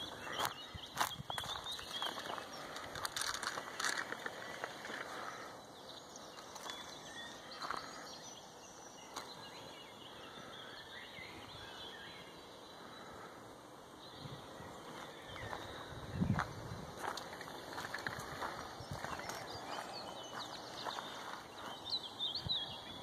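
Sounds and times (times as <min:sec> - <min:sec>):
faint bird calls: 0:00.0 - 0:23.0
steady hiss: 0:01.7 - 0:23.0.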